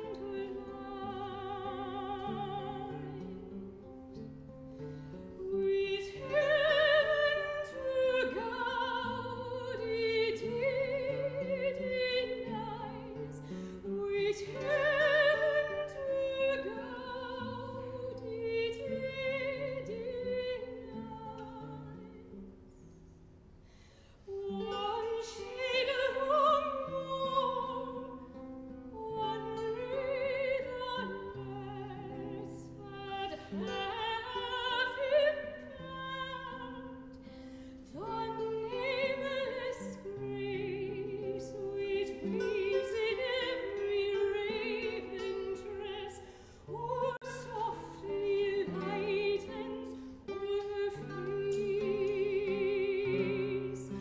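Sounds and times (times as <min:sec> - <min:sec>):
soprano singing: 0:00.0 - 0:23.0, 0:24.2 - 0:54.0
guitar accompaniment: 0:00.0 - 0:54.0.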